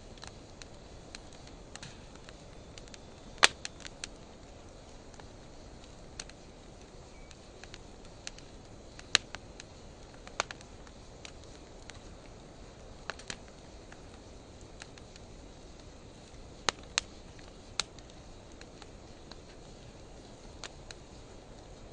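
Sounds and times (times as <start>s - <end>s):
fire crackles and pops: 0.0s - 21.9s
wood fire hissing: 0.0s - 21.9s.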